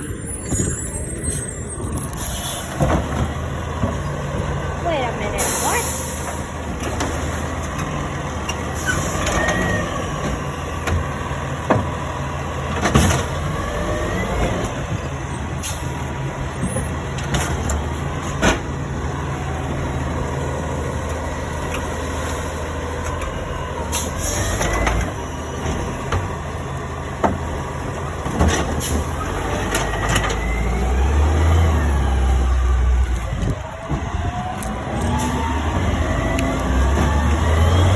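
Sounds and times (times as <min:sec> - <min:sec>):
garbage truck engine running: 0:00.0 - 0:37.9.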